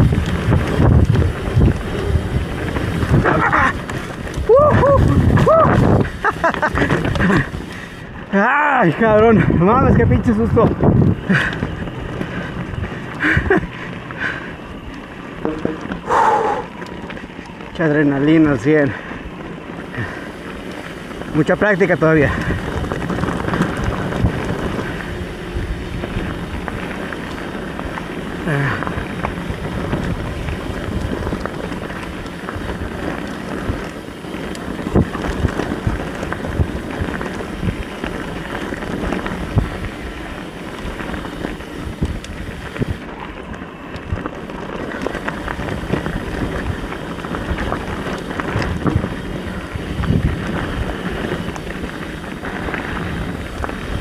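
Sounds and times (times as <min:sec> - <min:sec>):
bike clattering over trail: 0:00.0 - 0:54.0
bike tyres rolling: 0:00.0 - 0:54.0
wind rushing over microphone: 0:00.0 - 0:54.0.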